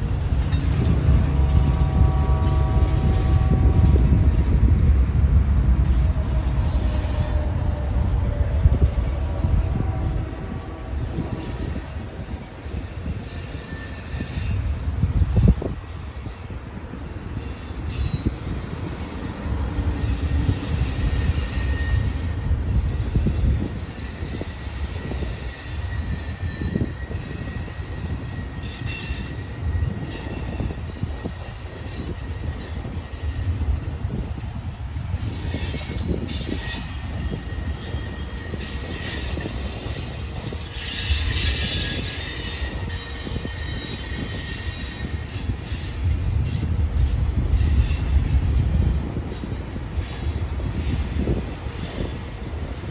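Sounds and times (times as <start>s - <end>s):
train wheels rumbling on rail: 0.0s - 52.9s
high wheel squeal: 0.5s - 4.8s, 5.9s - 34.4s, 35.0s - 52.8s.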